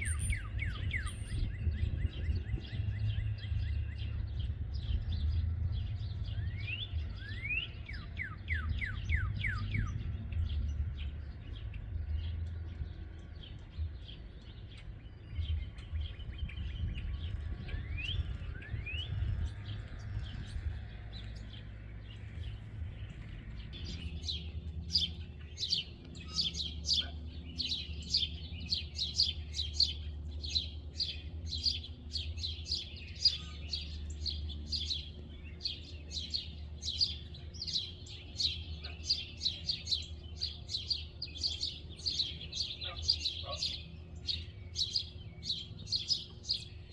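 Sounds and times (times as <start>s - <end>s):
wind rumbling on microphone: 0.0s - 38.9s
small birds chirping: 0.0s - 46.9s.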